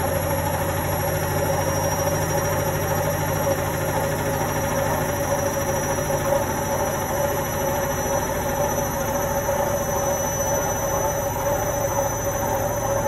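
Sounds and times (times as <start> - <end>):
washing machine drum spinning: 0.0 - 13.0.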